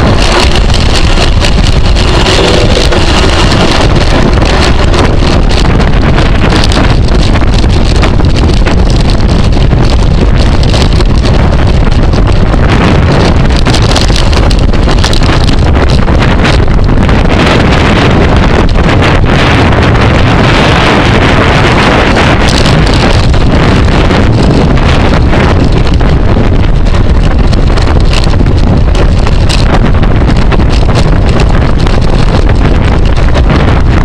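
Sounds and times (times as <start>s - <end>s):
small clicks and rattles: 0.0s - 34.0s
wind rushing over microphone: 0.0s - 34.0s.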